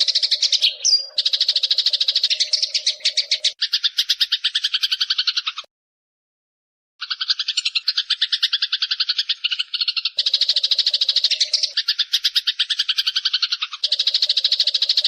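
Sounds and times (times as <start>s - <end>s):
sparrows chattering: 0.0s - 5.7s, 7.0s - 15.0s.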